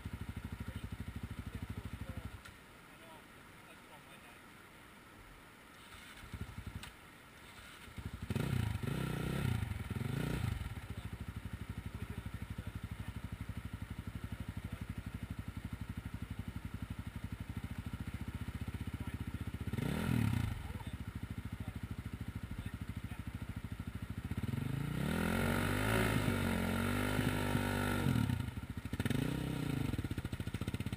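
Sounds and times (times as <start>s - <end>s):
dirt bike engine revving and idling: 0.0s - 2.5s, 5.8s - 30.9s.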